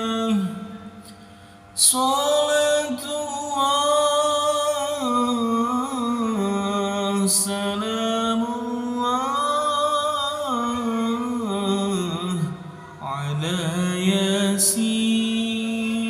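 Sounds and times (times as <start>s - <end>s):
person singing ornamented notes: 0.0s - 16.0s.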